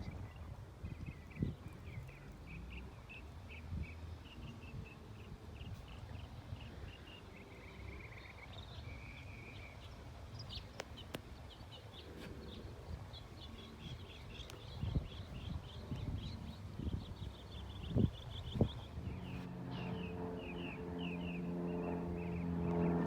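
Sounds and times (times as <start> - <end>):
birds chirping: 0.0 - 23.0
steady low rumble: 0.0 - 23.0.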